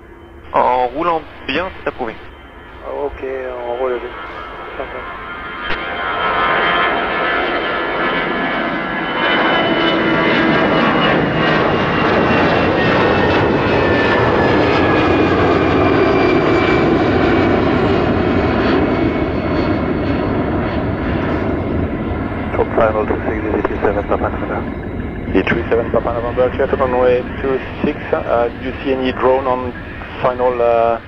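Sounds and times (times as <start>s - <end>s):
jet engine roar: 0.0s - 31.0s
jet engine whine falling in pitch: 0.0s - 31.0s.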